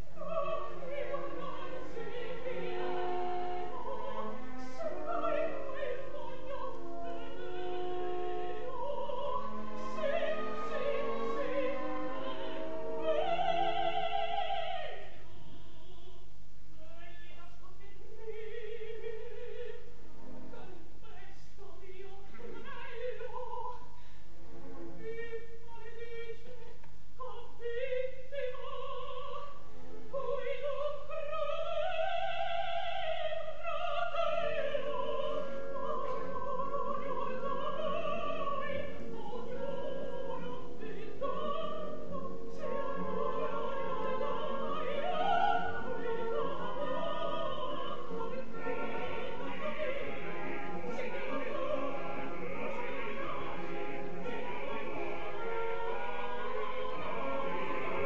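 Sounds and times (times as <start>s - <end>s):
soprano singing with vibrato: 0.0s - 58.0s.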